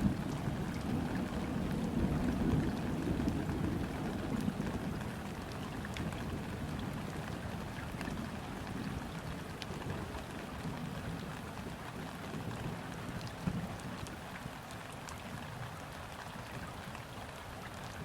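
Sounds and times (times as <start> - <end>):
rain falling on water: 0.0 - 18.0.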